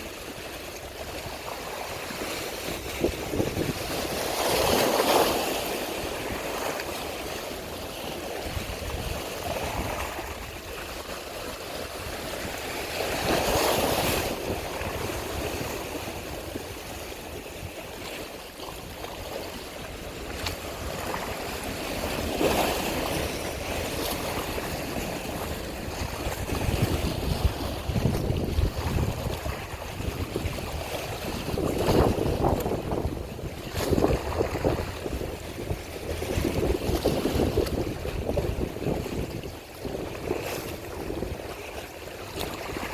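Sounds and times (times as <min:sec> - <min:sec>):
wind buffeting microphone: 0:00.0 - 0:07.4, 0:08.0 - 0:42.9
sea water washing and splashing: 0:00.0 - 0:42.9.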